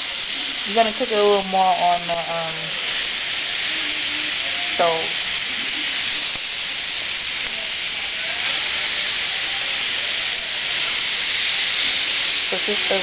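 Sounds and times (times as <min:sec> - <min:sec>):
chicken sizzling on grill: 0:00.0 - 0:13.0.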